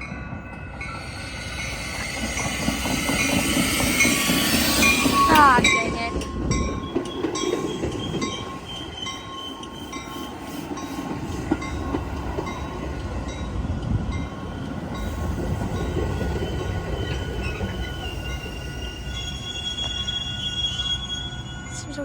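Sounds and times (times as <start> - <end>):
train rumbling: 0.0 - 22.0
steel wheels squealing: 0.1 - 22.0.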